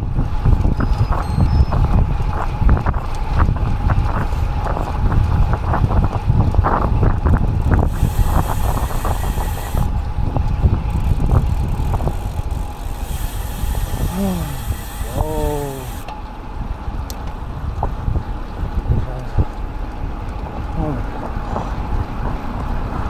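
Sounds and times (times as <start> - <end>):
bicycle road noise: 0.0 - 23.0
wind buffeting microphone: 0.0 - 23.0.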